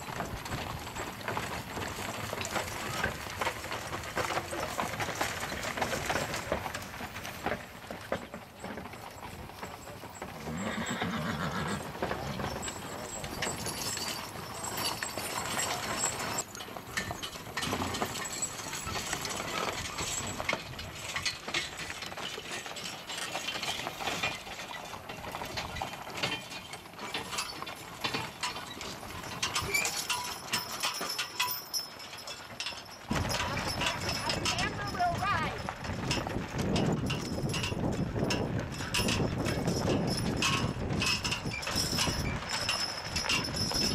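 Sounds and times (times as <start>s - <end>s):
hooves clip-clopping: 0.0s - 43.9s
wagon wheels and harness rattling: 0.0s - 43.9s.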